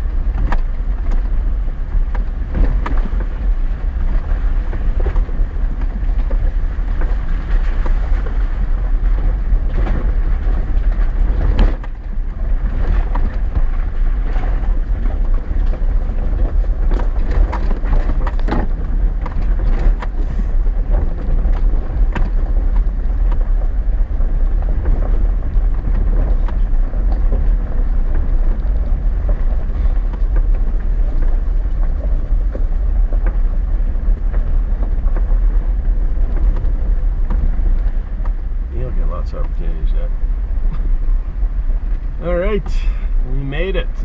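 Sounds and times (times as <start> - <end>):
engine and tyres rumbling: 0.0 - 44.0.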